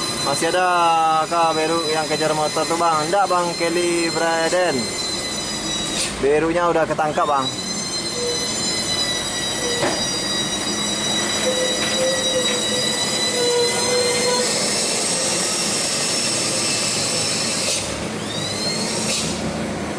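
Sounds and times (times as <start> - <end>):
short rising squeak: 0.0 - 6.4, 7.0 - 19.4
truck brakes squealing: 0.0 - 19.6.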